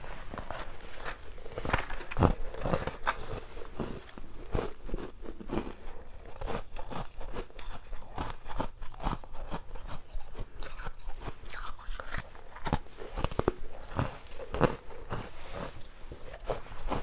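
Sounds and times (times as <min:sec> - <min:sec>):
chewing crunchy ice: 0:00.3 - 0:17.0.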